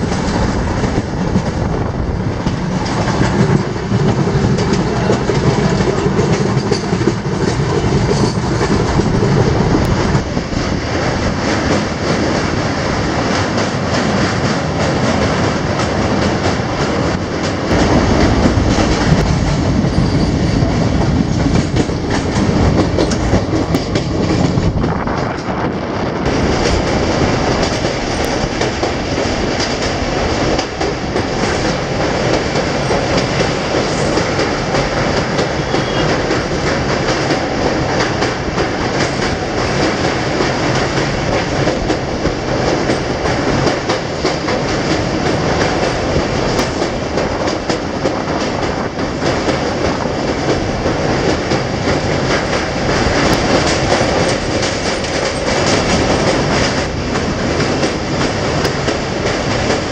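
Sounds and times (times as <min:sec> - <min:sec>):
train rumbling: 0:00.0 - 0:59.9
wheels clacking over rail joints: 0:00.0 - 0:59.9.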